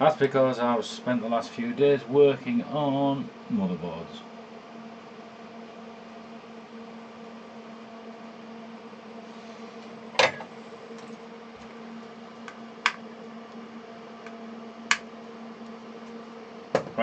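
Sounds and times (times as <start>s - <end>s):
small fan humming: 0.0s - 17.0s.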